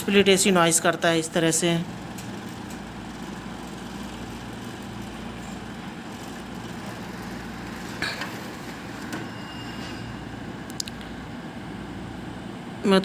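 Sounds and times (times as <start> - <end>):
air conditioner vibrating hum: 0.0 - 13.0.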